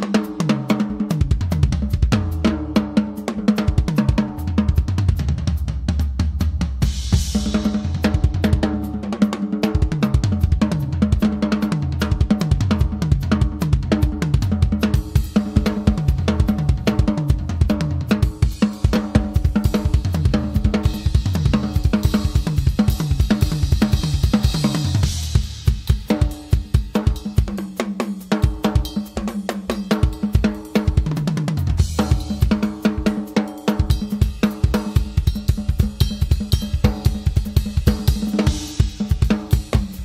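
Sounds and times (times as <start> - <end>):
drum solo: 0.0 - 40.0.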